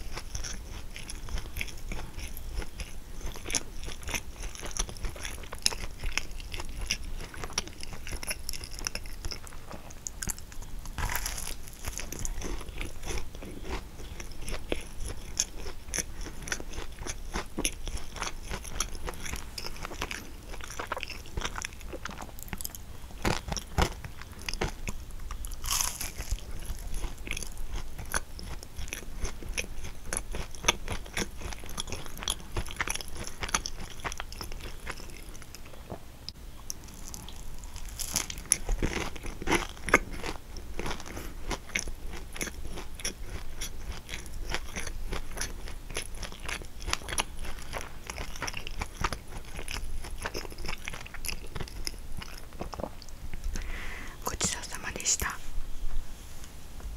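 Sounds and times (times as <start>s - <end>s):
pastry crust crunching: 0.0s - 35.8s, 36.7s - 53.7s
soft chewing: 0.0s - 55.4s.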